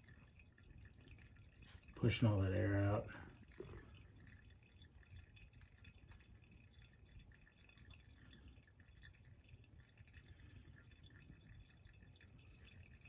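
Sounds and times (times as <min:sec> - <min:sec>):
fluid trickling through hose: 0:00.0 - 0:13.0
soft irregular ticks: 0:00.0 - 0:13.0.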